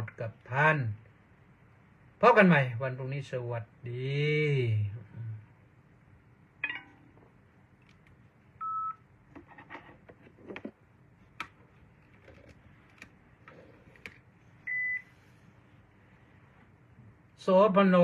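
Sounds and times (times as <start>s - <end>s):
low room hiss: 0.0s - 18.0s.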